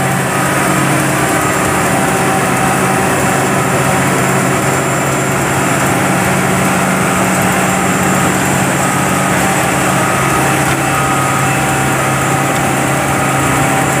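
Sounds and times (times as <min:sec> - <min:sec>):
cutter drum grinding road: 0:00.0 - 0:14.0
diesel engine under load: 0:00.0 - 0:14.0.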